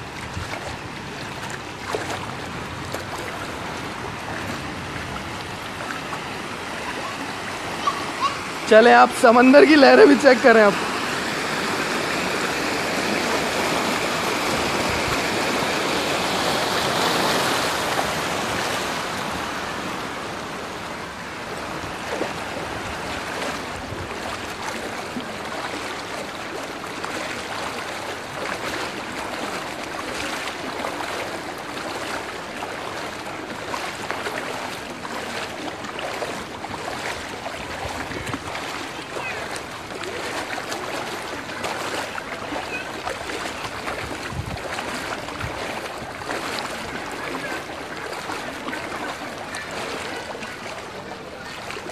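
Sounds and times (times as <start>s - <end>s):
floodwater rushing and sloshing: 0.0s - 51.9s
small sharp water splashes: 0.0s - 51.9s.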